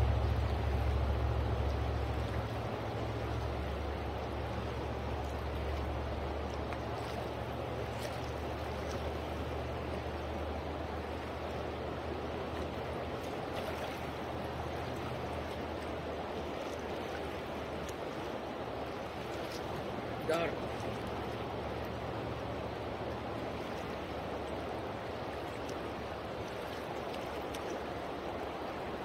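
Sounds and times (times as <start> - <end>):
river current rushing: 0.0 - 29.0.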